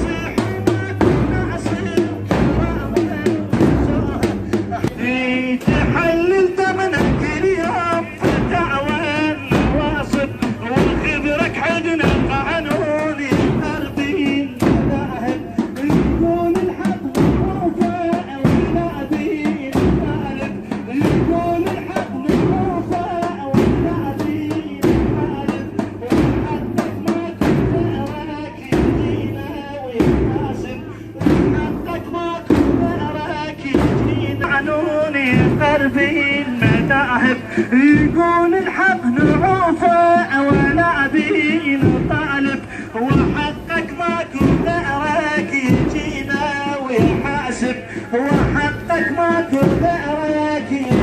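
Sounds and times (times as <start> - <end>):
group chanting a lament: 0.0 - 51.0
low heavy thumps: 0.0 - 51.0
rhythmic chest-beating thuds: 0.0 - 51.0.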